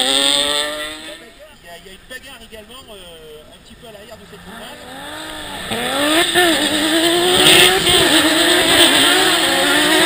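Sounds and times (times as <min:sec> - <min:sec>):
racing car engines revving: 0:00.0 - 0:10.0.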